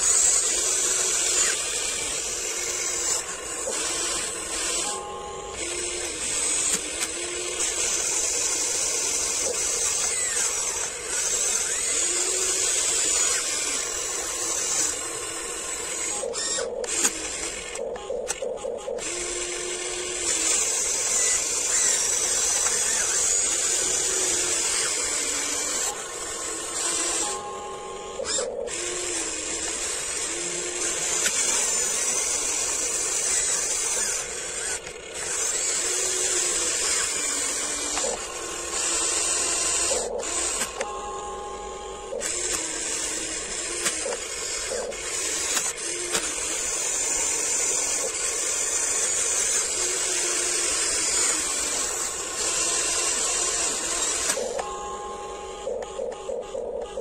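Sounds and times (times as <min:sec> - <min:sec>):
small electric motors whining: 0:00.0 - 0:57.0.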